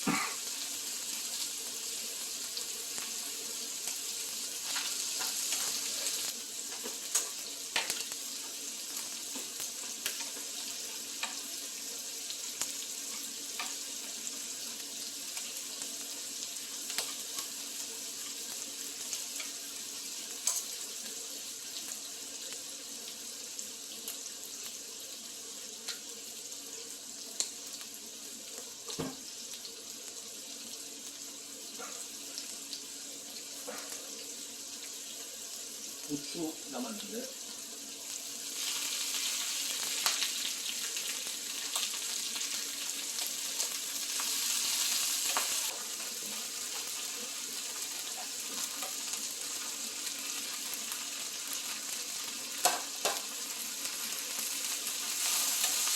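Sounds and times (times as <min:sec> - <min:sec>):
food sizzling in a pan: 0:00.0 - 0:55.9.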